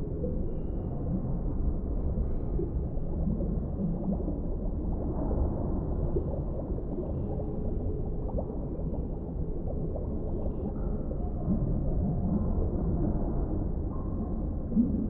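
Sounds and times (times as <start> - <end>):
low underwater rumble: 0.0 - 15.0
bubbles gurgling and popping: 0.2 - 15.0.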